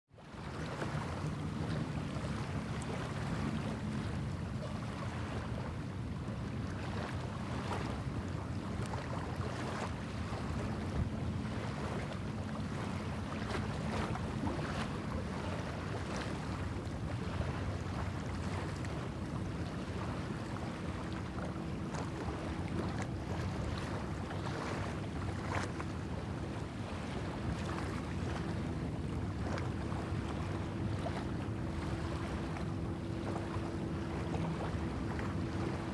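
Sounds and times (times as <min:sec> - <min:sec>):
small waves lapping: 0:00.1 - 0:35.9
wind: 0:00.1 - 0:35.9
steady low hum: 0:00.3 - 0:35.9.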